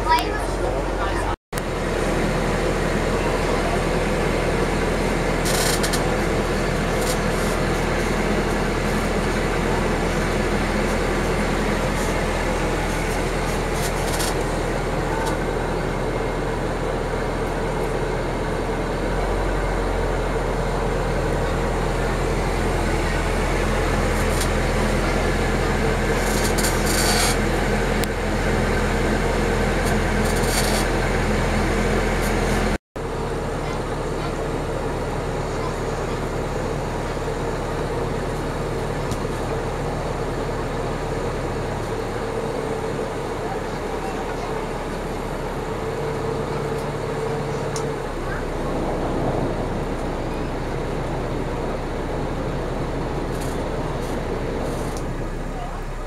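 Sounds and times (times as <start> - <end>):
ferry engine drone: 0.0 - 56.0
wind: 0.0 - 56.0.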